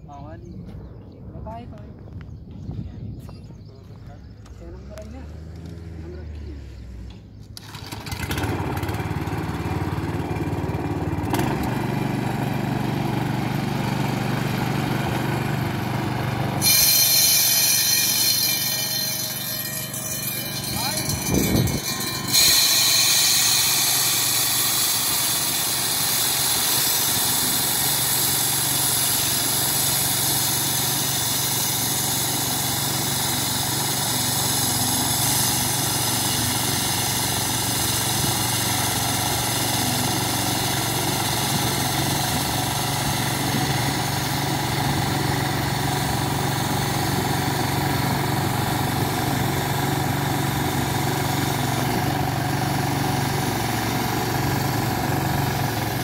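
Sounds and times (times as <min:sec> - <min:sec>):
core cutting machine engine running: 0:07.6 - 0:56.0.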